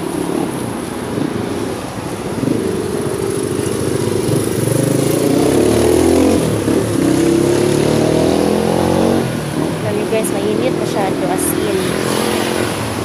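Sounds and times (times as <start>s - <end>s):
motorcycle engine passing: 0.0s - 13.0s
road traffic noise: 0.0s - 13.0s.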